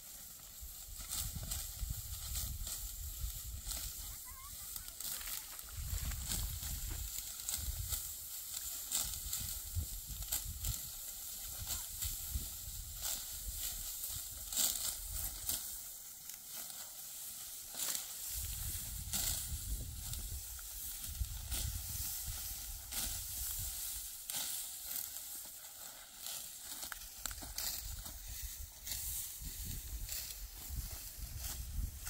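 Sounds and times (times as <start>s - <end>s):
dry wheat stalks rustling: 0.0s - 32.0s.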